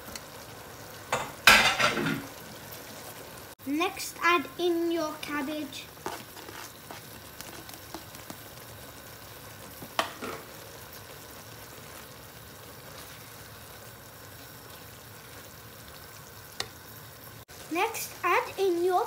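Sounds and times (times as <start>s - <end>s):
food sizzling in wok: 0.0s - 19.0s.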